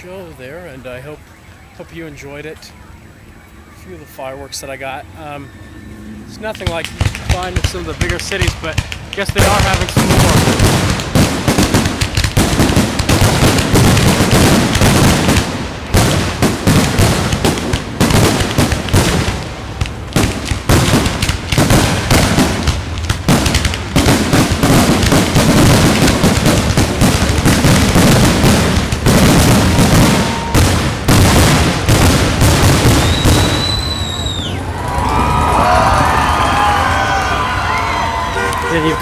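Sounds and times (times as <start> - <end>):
fireworks booming and crackling: 6.3 - 39.0.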